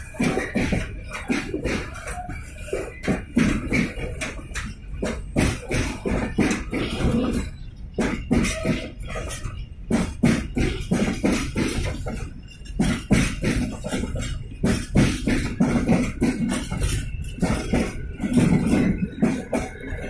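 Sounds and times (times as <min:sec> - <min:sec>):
train low rumble: 0:00.0 - 0:20.0
train wheels clattering: 0:00.0 - 0:20.0.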